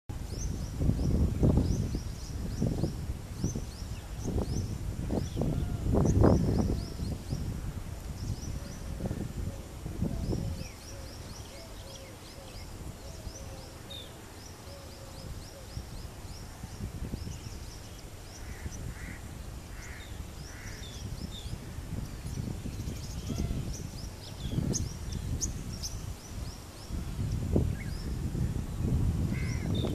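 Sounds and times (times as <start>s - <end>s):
wind rumble on microphone: 0.1s - 29.9s.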